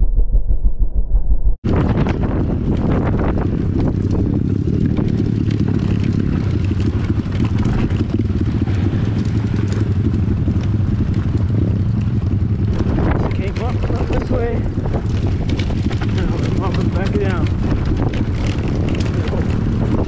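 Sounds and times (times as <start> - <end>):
bike rattling over bumps: 1.6 - 20.0
motorbike engine running: 1.6 - 20.0.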